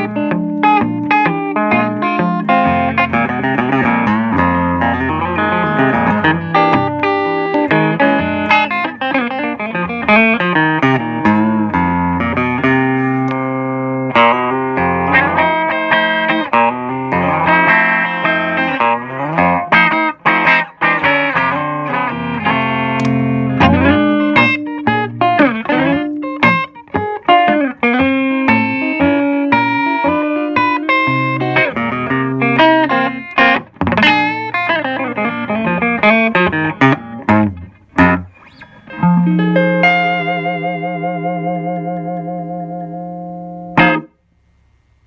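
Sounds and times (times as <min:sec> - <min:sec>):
clean electric guitar: 0:00.0 - 0:45.0.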